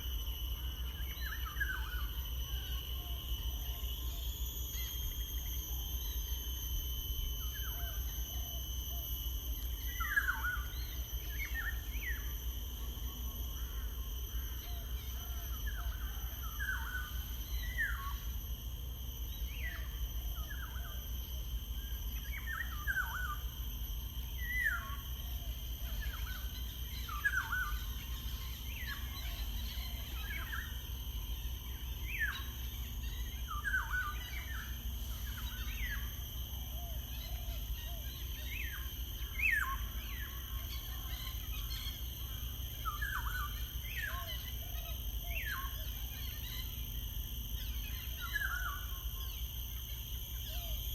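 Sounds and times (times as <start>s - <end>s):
faint high hum: 0.0s - 50.9s.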